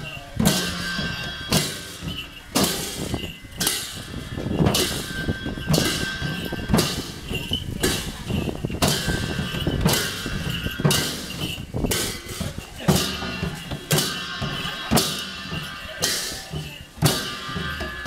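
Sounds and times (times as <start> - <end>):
drums beating: 0.0 - 18.0.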